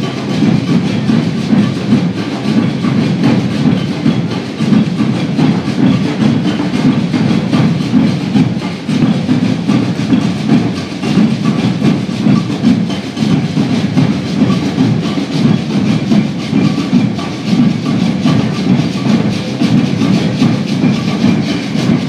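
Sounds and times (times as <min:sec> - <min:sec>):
rattling snare drums: 0:00.0 - 0:22.0
shakers: 0:00.0 - 0:22.0.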